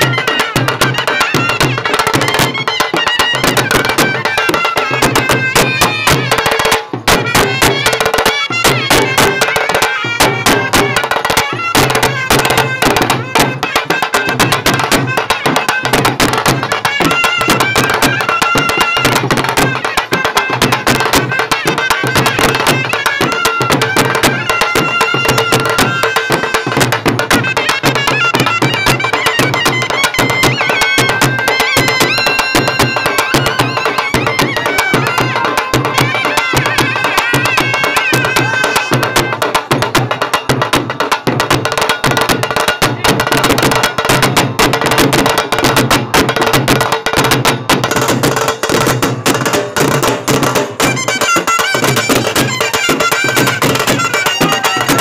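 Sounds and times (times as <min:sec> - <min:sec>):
folk instrumental music: 0:00.0 - 0:55.0.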